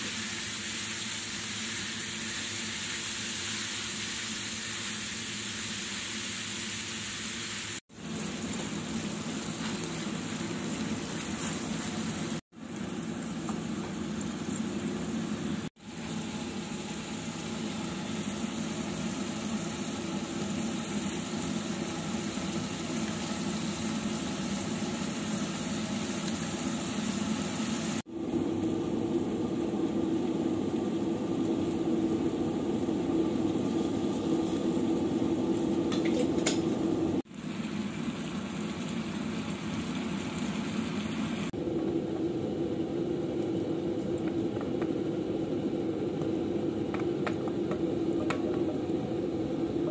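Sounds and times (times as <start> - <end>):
mince sizzling in a pan: 0.0 - 41.6.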